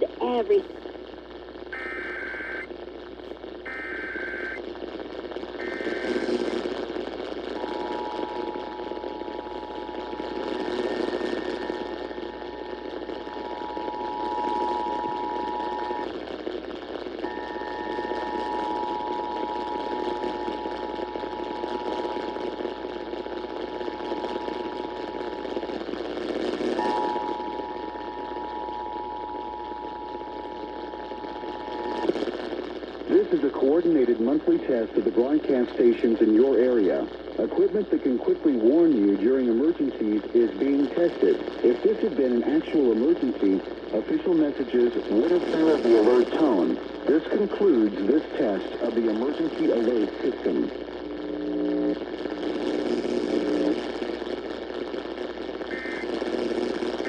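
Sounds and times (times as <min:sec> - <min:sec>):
radio hiss and static: 0:00.0 - 0:57.0.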